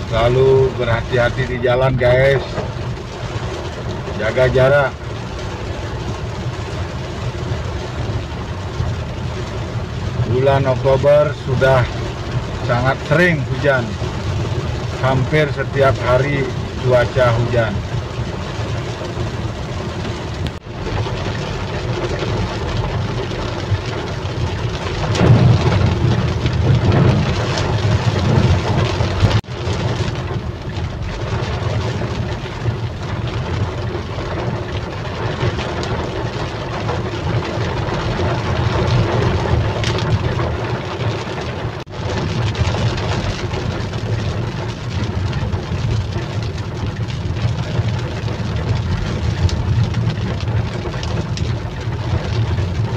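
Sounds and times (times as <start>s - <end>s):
engine and tyres rumble on wet road: 0.0s - 52.9s
heavy rain on car: 0.0s - 52.9s.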